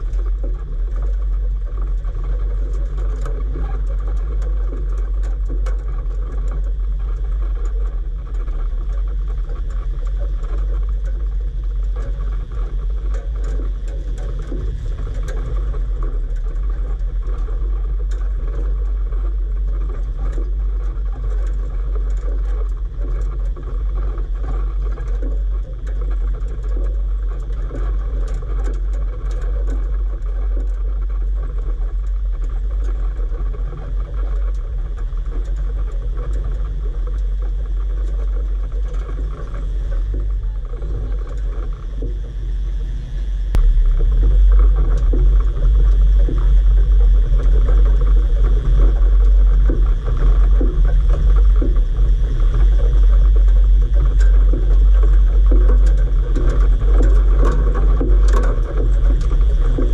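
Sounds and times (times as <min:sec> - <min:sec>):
vehicle engine and tyres rumbling: 0:00.0 - 0:59.9.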